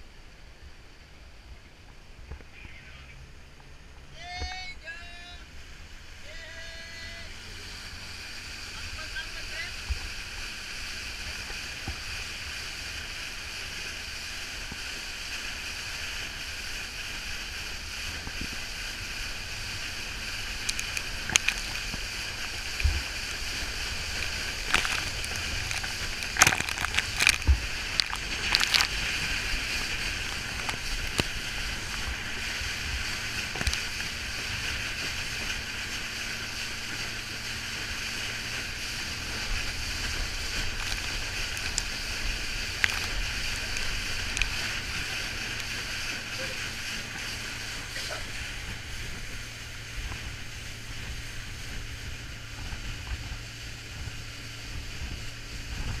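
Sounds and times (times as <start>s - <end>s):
water rushing past boat hull: 5.4s - 56.0s
water slaps and splashes: 8.0s - 56.0s.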